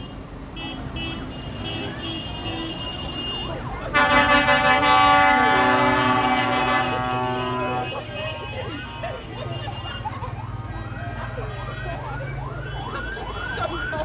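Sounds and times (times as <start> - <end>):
passing vehicles: 0.0 - 14.0
loud horn or siren: 0.7 - 14.0.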